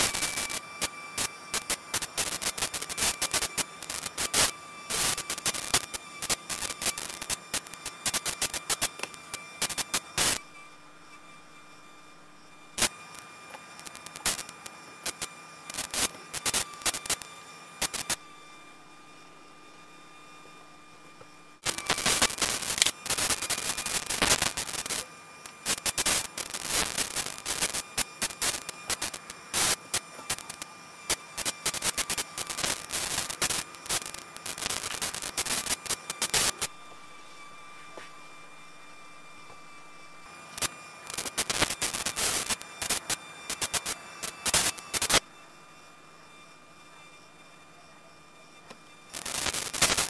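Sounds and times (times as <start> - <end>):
crackling static interference: 0.0 - 50.0
faint steady whining tones: 0.0 - 50.0.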